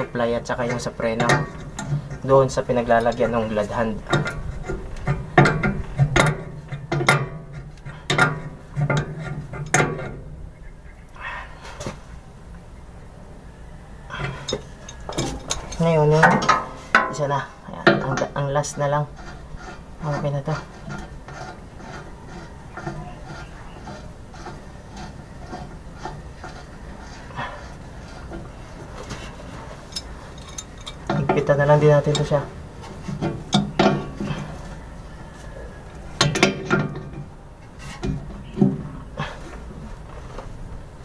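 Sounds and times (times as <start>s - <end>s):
low background rumble: 0.0s - 41.0s
steady low hum: 0.0s - 41.0s.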